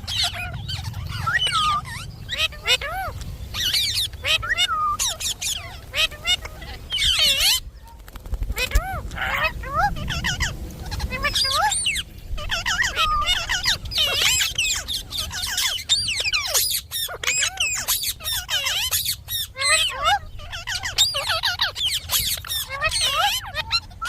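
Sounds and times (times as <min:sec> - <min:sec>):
parakeet whistling and squawking: 0:00.0 - 0:07.7, 0:08.6 - 0:24.0.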